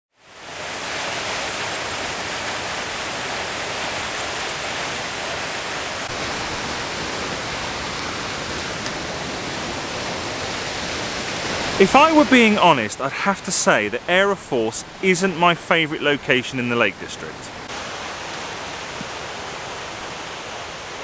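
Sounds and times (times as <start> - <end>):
waterfall rushing: 0.2 - 21.0.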